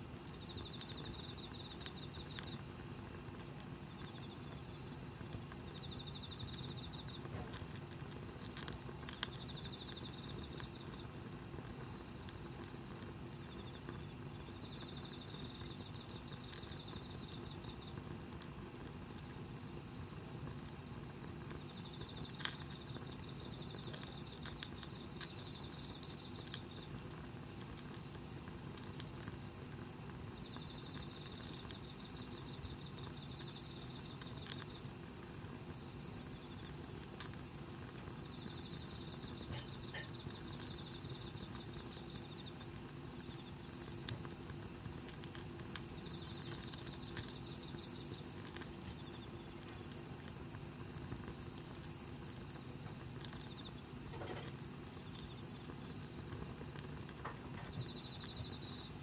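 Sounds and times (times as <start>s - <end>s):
campfire crackles: 0.0s - 59.0s
insects trilling: 0.0s - 59.0s.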